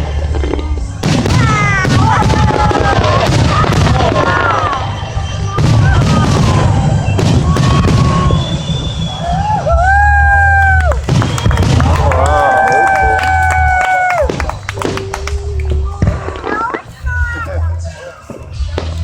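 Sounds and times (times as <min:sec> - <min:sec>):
fireworks bangs and booms: 0:00.0 - 0:09.8, 0:11.0 - 0:19.0.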